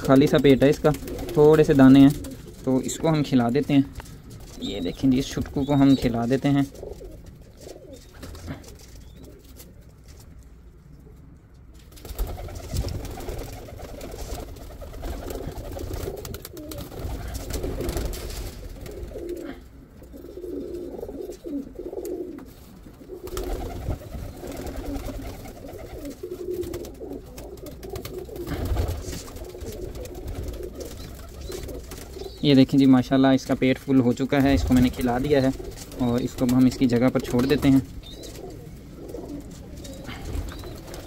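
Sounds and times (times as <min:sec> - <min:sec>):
pigeons cooing: 0:00.0 - 0:03.2, 0:04.0 - 0:09.9, 0:12.2 - 0:32.7, 0:34.4 - 0:41.0.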